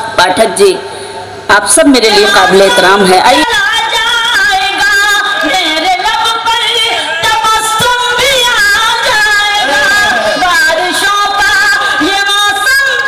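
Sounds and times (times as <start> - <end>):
woman singing into a microphone: 2.0 - 13.0.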